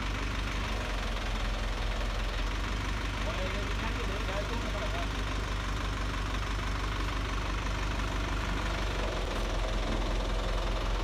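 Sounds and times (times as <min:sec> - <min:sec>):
crane truck engine running: 0:00.0 - 0:11.0.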